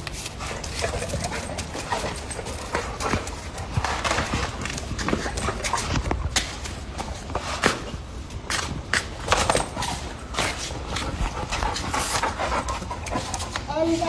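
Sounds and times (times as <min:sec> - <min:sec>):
paws and claws tapping ground: 0:00.0 - 0:14.0.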